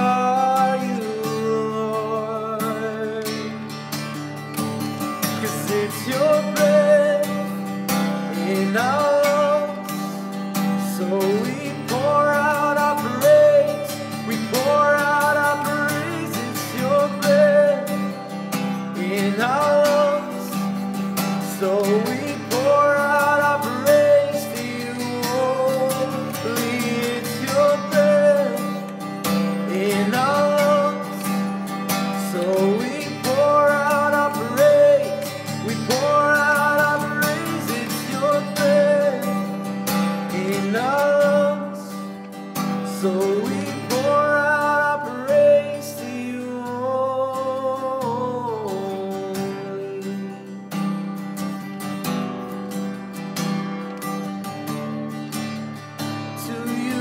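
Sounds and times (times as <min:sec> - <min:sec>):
man singing: 0:00.0 - 0:50.9, 0:56.2 - 0:57.0
acoustic guitar strumming: 0:00.0 - 0:57.0.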